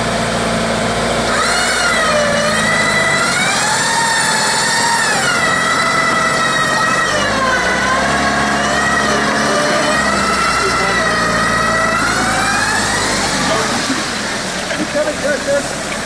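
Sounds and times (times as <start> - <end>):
car engine running: 0.0 - 16.0
high whine rising and falling: 1.1 - 16.0.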